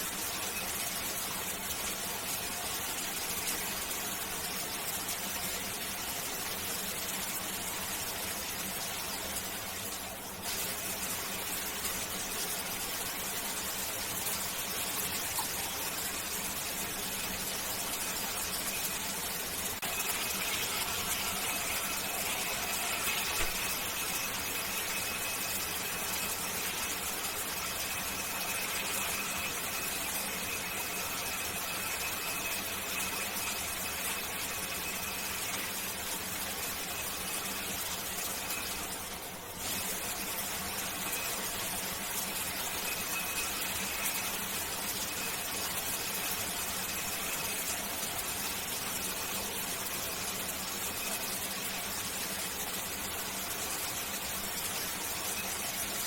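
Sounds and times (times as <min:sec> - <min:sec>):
shower water running: 0:00.0 - 0:56.0.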